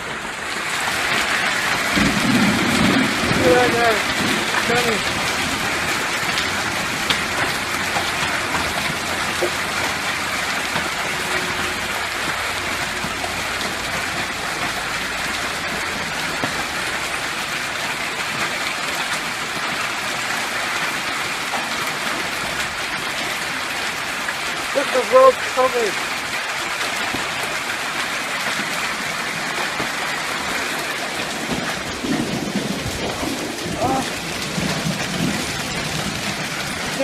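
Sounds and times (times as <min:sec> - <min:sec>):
hailstones and heavy rain pelting: 0:00.0 - 0:37.0.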